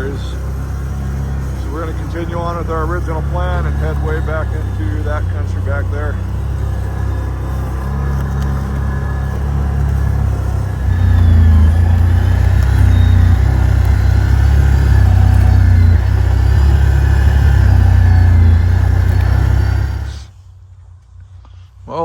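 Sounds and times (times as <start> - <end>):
off-road vehicle engine rumble: 0.0 - 22.0.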